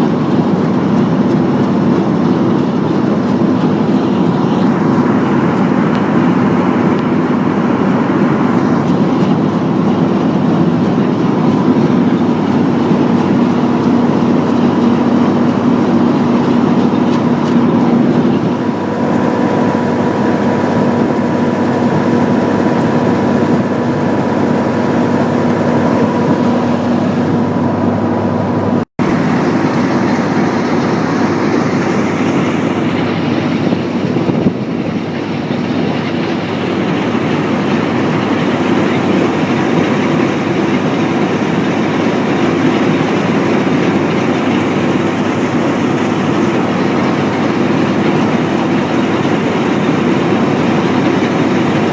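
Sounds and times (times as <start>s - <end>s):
combine harvester running: 0.0s - 51.9s
steady hum: 0.0s - 51.9s.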